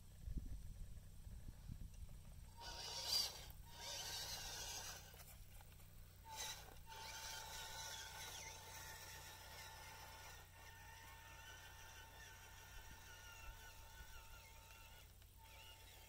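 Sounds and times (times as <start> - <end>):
toy truck electric motor whine: 2.6 - 16.0.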